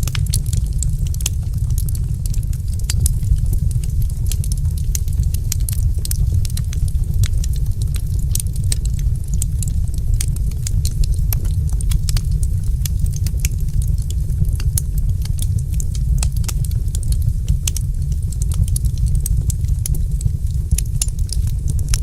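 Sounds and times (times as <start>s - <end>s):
fire crackling and popping: 0.0s - 22.0s
low rumble: 0.0s - 22.0s.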